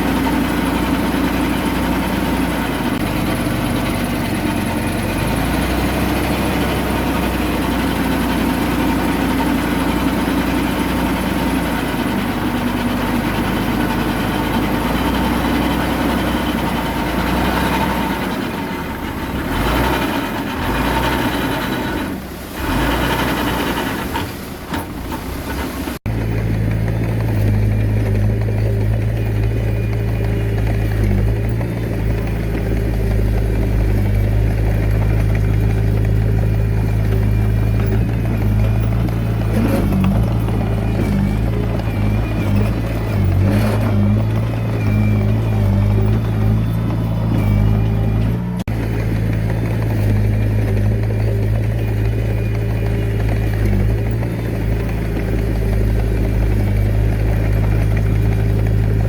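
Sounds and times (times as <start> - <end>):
bulldozer diesel engine running: 0.0 - 59.0
deep steady engine hum: 0.0 - 59.0.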